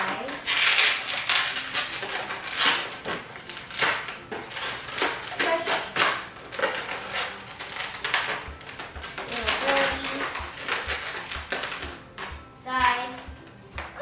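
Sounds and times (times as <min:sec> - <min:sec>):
balloons rubbing and squeaking: 0:00.0 - 0:12.1.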